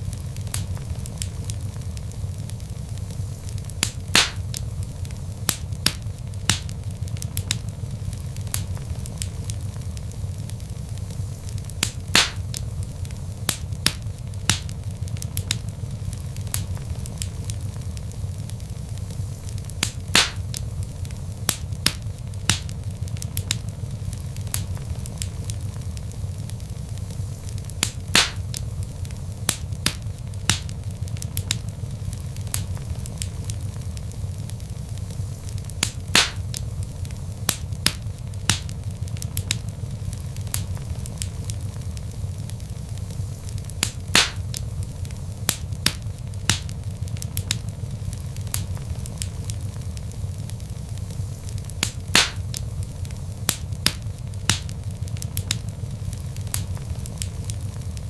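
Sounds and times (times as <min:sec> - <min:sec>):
log fire crackling and popping: 0:00.0 - 0:58.0.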